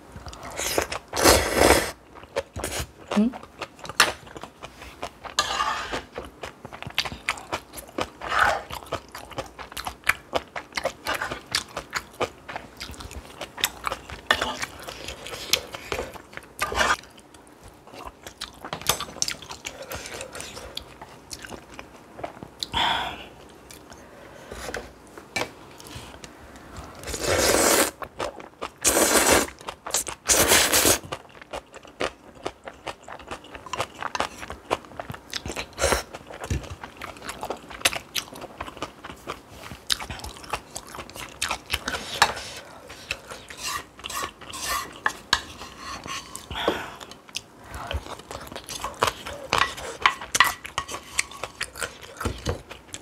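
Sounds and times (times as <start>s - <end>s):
crunching and chewing food: 1.9s - 22.7s, 27.9s - 53.0s.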